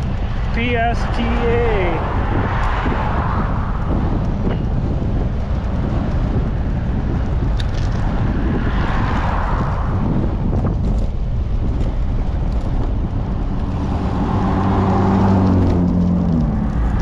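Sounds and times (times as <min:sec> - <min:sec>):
vehicles passing: 0:00.0 - 0:17.0
wind buffeting microphone: 0:00.0 - 0:17.0.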